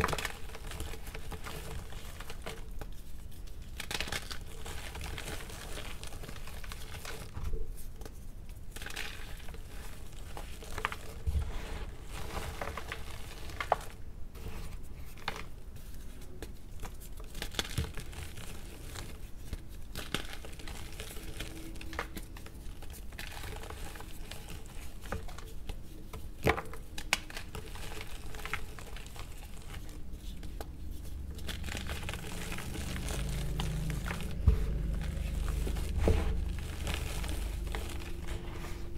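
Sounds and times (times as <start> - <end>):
chalk crunching and crumbling: 0.0 - 38.9
powder rustling: 0.0 - 38.9.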